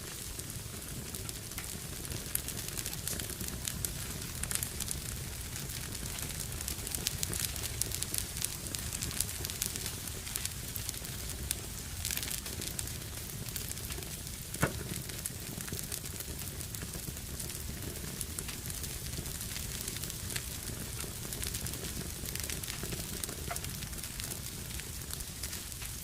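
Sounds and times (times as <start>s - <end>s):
fire crackling in fireplace: 0.0s - 26.0s.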